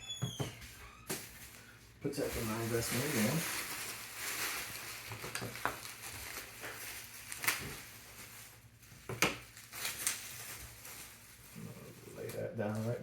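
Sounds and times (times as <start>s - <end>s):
bubble wrap rustling and crinkling: 0.6s - 13.0s.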